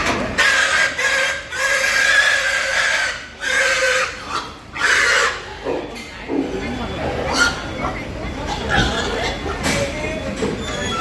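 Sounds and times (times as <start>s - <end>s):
pigs squealing: 0.3s - 9.6s, 10.6s - 11.0s.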